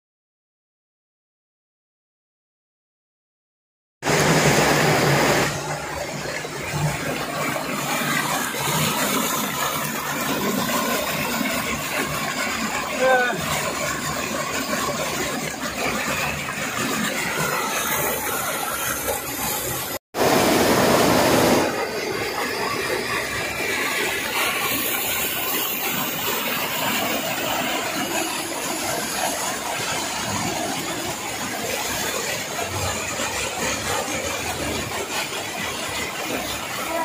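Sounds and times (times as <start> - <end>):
stream water rushing over rocks: 4.0 - 37.0.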